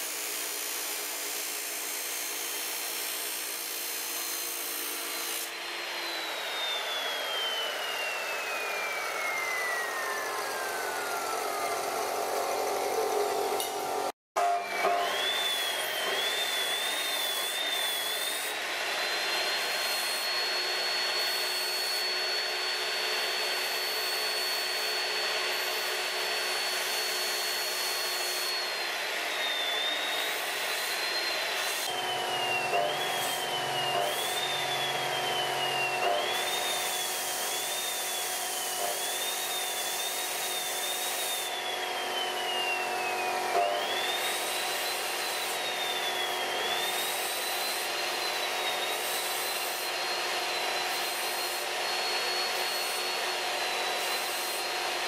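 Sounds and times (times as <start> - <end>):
cut-off saw grinding metal: 0.0 - 55.0.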